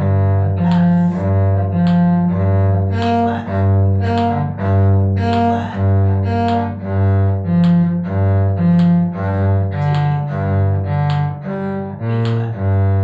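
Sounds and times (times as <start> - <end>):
bowed string arpeggio: 0.0 - 13.0.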